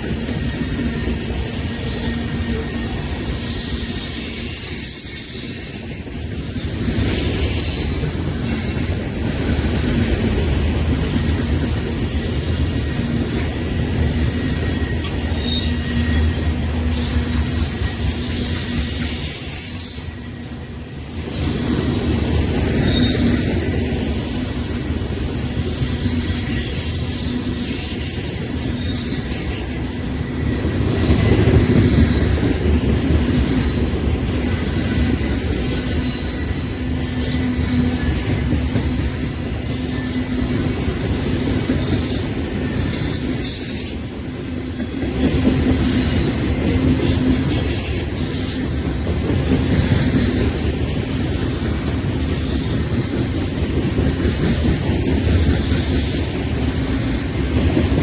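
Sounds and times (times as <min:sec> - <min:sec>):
train wheel squeal: 0:00.0 - 0:58.0
train wheels rumbling and clattering: 0:00.0 - 0:58.0.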